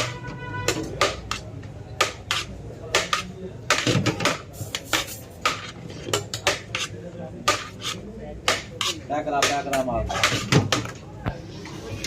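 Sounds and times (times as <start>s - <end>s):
metal dishes and utensils clattering: 0.0s - 11.0s.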